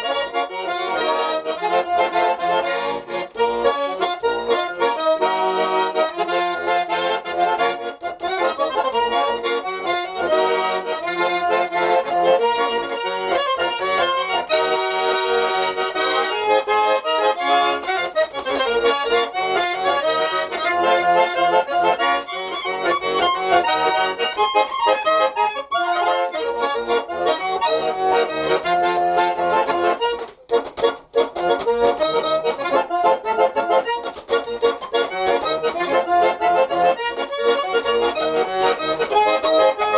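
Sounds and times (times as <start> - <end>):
button accordion folk melody: 0.0 - 39.9.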